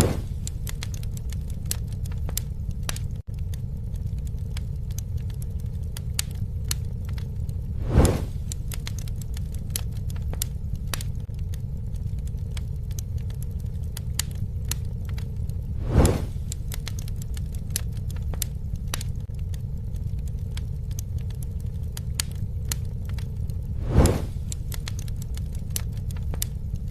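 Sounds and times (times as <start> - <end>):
burning wood snapping: 0.0 - 26.9
campfire flames rumbling: 0.0 - 26.9
fire whoosh: 0.0 - 26.9.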